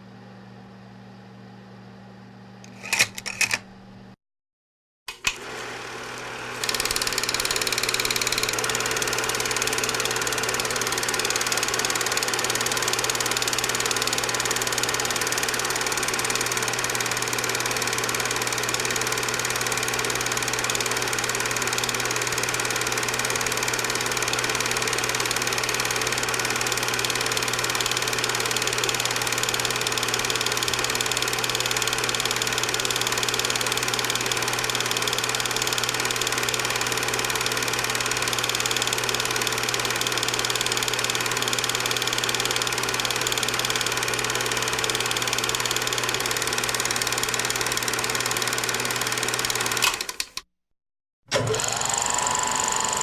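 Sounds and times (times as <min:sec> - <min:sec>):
film projector whirring: 0:05.1 - 0:50.4, 0:51.3 - 0:53.0.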